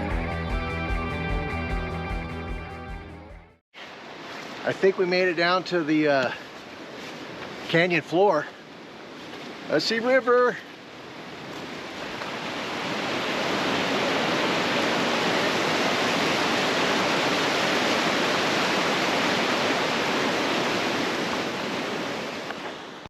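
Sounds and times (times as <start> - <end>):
river water rushing: 3.8 - 23.0.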